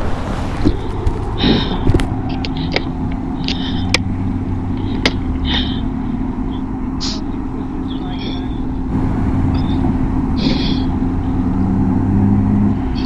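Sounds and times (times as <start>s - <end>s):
car engine idling: 0.0s - 13.0s
road rumble: 0.0s - 13.0s.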